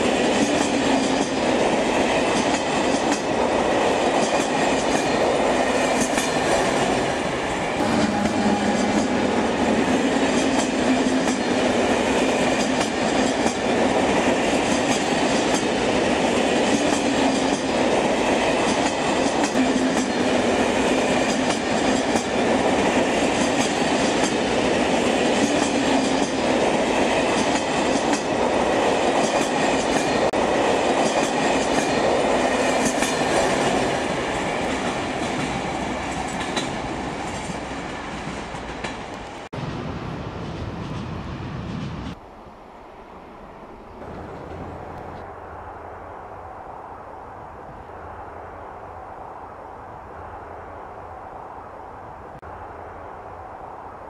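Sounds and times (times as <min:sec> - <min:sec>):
train rolling rumble: 0:00.0 - 0:46.4.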